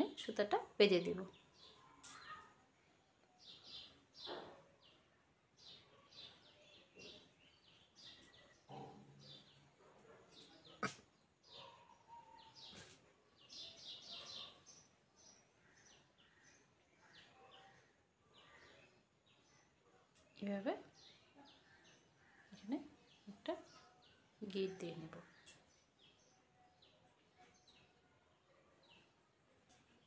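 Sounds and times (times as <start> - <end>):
birds chirping: 3.2 - 30.0.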